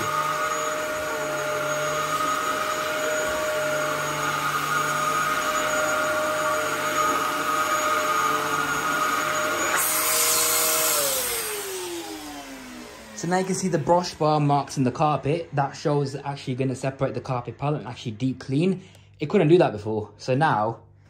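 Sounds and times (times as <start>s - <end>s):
vacuum cleaner motor whine: 0.0s - 18.6s.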